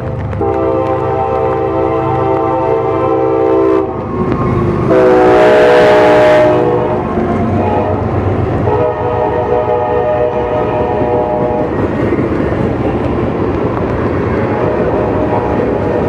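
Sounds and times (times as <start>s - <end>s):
passing train rumble: 0.0s - 16.0s
locomotive horn blast: 0.3s - 11.8s, 14.4s - 16.0s.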